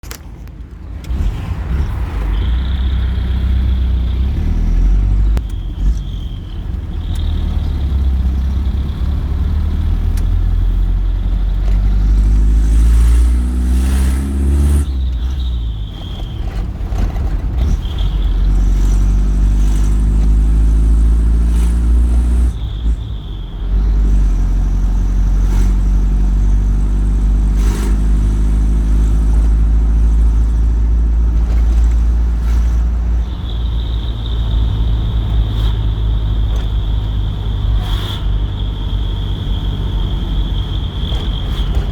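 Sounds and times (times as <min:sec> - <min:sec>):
truck diesel engine accelerating: 0:00.0 - 0:41.9.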